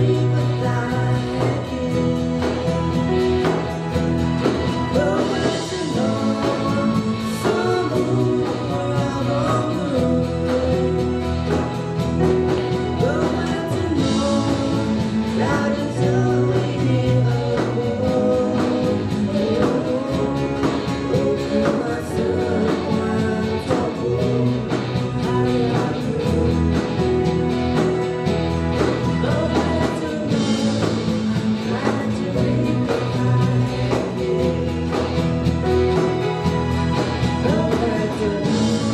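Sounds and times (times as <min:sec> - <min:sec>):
guitar accompaniment: 0:00.0 - 0:38.9
people singing: 0:00.0 - 0:38.9.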